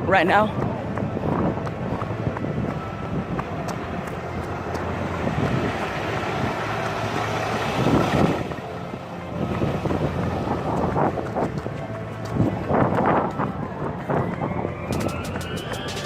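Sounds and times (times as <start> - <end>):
passing traffic: 0.0 - 16.0
wind on microphone: 0.0 - 16.0.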